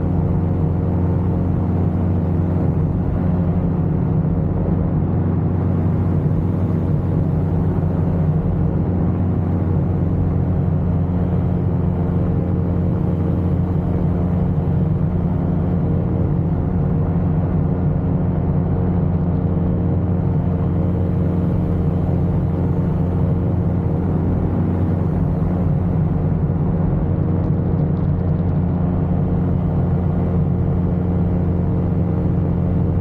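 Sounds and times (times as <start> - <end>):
aircraft engine droning: 0.0 - 33.0.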